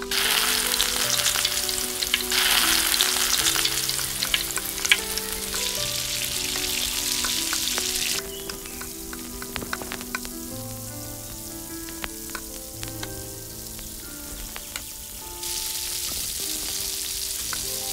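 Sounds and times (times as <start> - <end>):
prawns sizzling in hot oil: 0.0 - 17.9
soft background music: 0.0 - 17.9.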